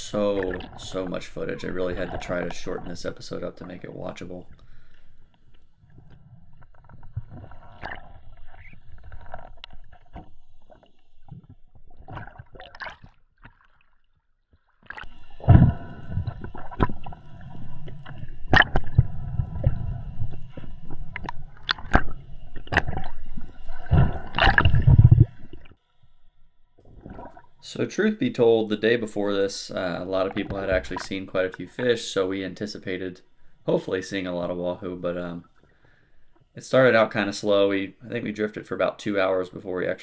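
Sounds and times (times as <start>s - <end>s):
water sloshing and gurgling: 0.0s - 37.0s.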